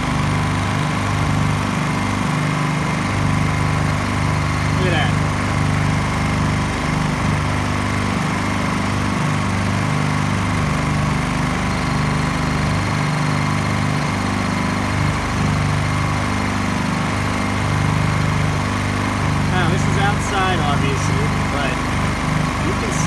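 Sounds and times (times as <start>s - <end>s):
generator engine humming: 0.0s - 23.0s.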